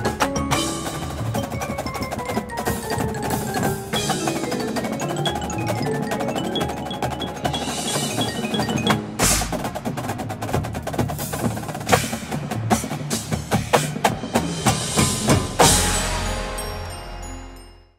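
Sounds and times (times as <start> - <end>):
drumline playing fast percussion: 0.0 - 16.9.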